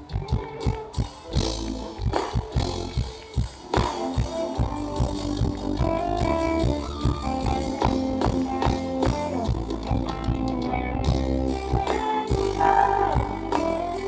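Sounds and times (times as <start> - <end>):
sustained bass line: 0.0 - 0.6, 1.3 - 3.2, 3.8 - 14.0
held pitched notes: 0.0 - 14.0.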